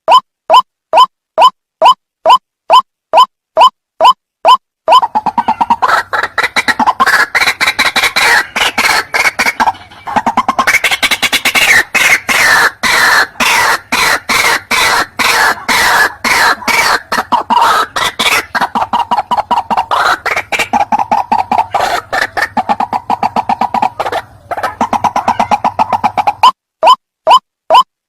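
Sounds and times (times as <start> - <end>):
bird calling harsh repeated notes: 0.0 - 27.9.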